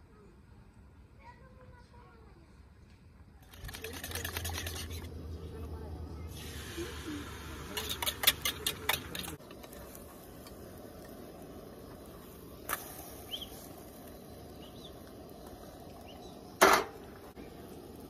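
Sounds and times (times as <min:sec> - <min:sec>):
eggs hissing in pan: 0:03.5 - 0:18.0.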